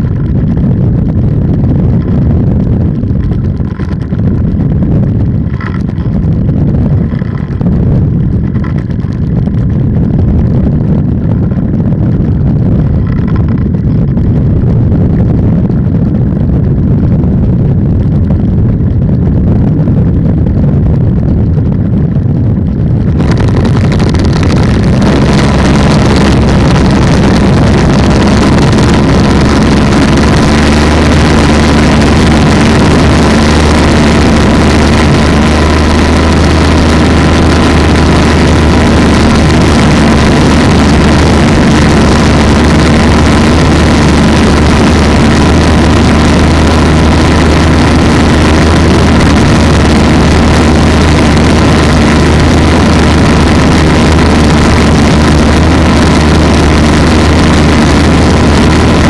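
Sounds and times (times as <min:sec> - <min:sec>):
two-stroke engine running steadily: 0:00.0 - 0:59.0.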